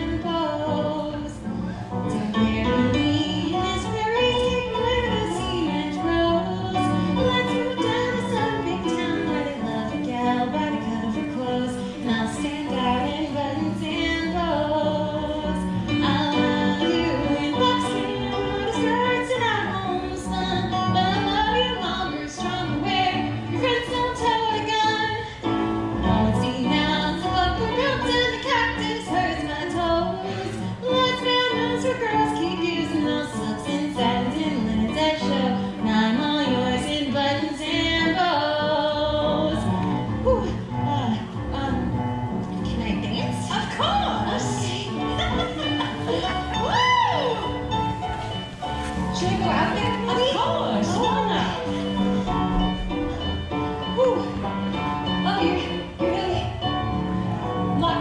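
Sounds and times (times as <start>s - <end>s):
woman singing: 0.0s - 56.8s, 57.4s - 58.0s.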